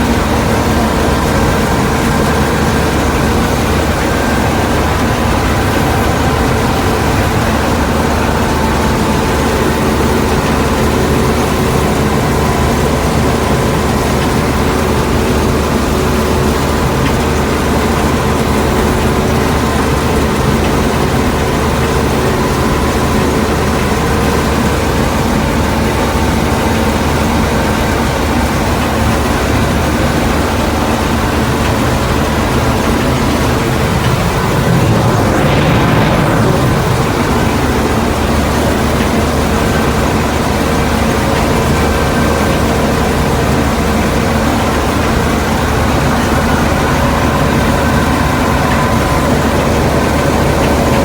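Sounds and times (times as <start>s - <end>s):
combine harvester engine drone: 0.0s - 51.0s.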